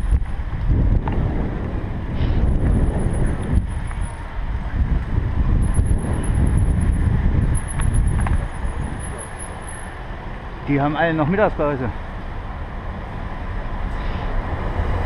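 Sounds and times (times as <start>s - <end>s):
bike tyres rolling over cobblestones: 0.0s - 13.6s
wind buffeting microphone: 0.0s - 15.0s.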